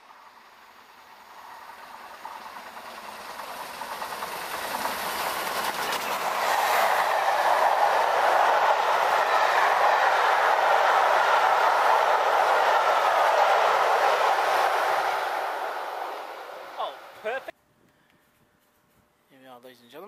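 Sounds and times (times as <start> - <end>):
steam train passing: 0.0 - 17.5
wheels clattering on rails: 0.0 - 17.5.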